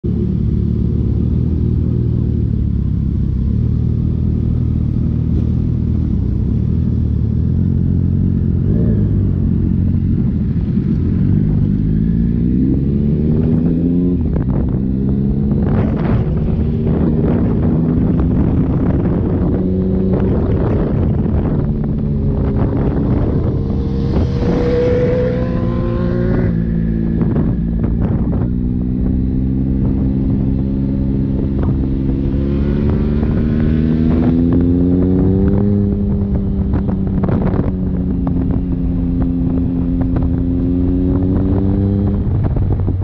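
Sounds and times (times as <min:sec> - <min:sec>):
motorcycle engine accelerating: 0:00.0 - 0:43.0
wind gusts on microphone: 0:03.9 - 0:43.0.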